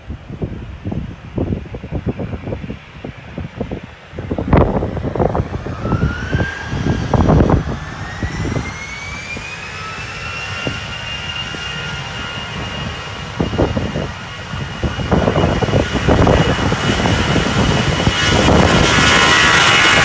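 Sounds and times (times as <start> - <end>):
wind rumble on microphone: 0.0 - 20.0
jet engines spooling up: 0.1 - 20.0.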